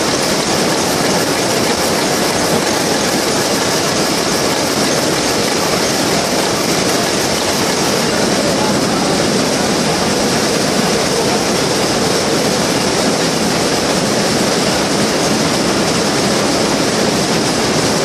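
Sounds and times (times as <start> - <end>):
loom clattering: 0.0 - 18.0.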